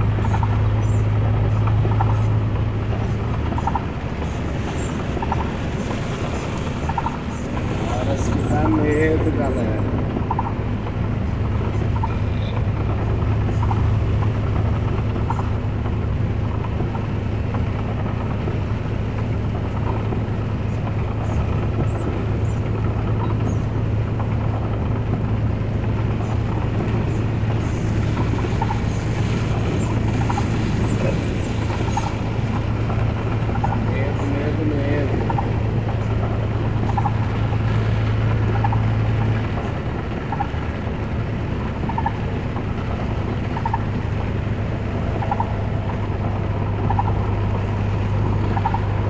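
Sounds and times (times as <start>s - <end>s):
rain and tyre hiss: 0.0s - 49.0s
vehicle engine droning: 0.0s - 49.0s.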